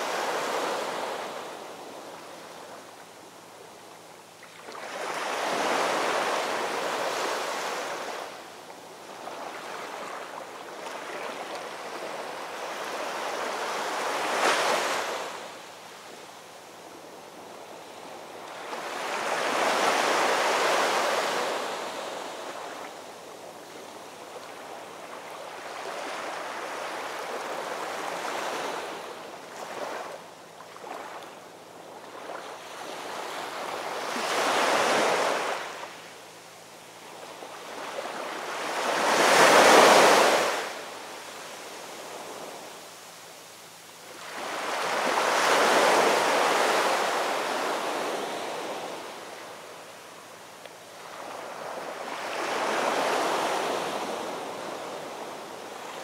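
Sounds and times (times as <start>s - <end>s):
small waves washing up beach: 0.0s - 3.8s, 4.4s - 56.0s.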